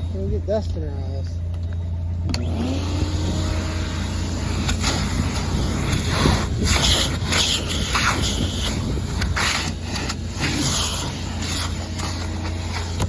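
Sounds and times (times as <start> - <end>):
wind and road noise: 0.0 - 13.0
car engine driving off: 1.3 - 13.0.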